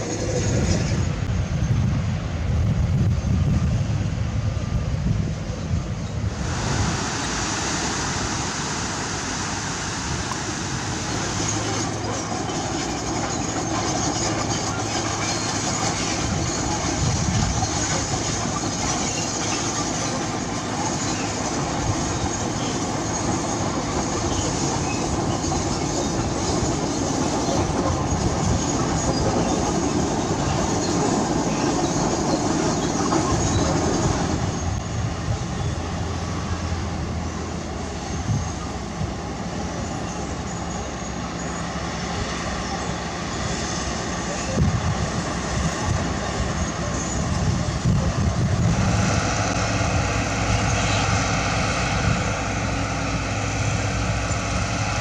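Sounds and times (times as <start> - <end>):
heavy diesel machinery rumbling: 0.0 - 55.0.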